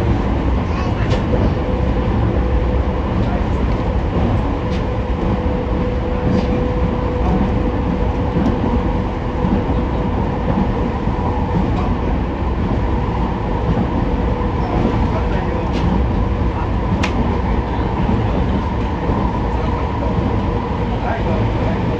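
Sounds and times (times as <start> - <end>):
train rolling rumble: 0.0 - 21.9.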